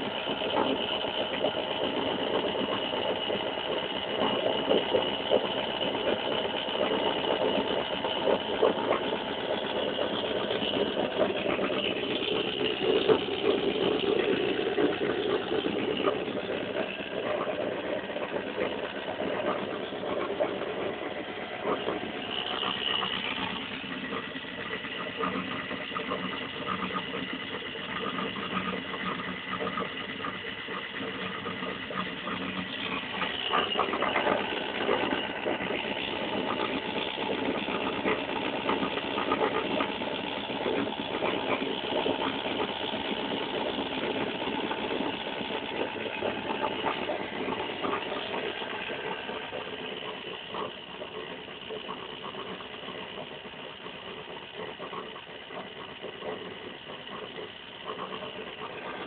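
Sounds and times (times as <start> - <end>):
motor whirring and rattling: 0.0 - 59.0.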